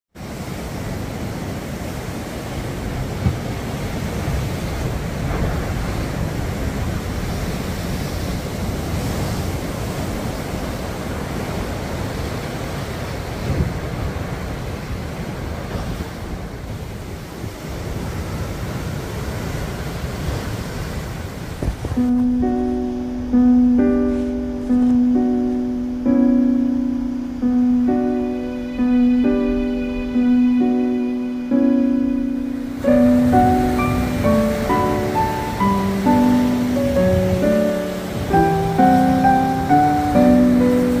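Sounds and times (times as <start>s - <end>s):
wind buffeting microphone: 0.2s - 26.1s, 32.6s - 41.0s
surf crashing on rocks: 0.2s - 41.0s.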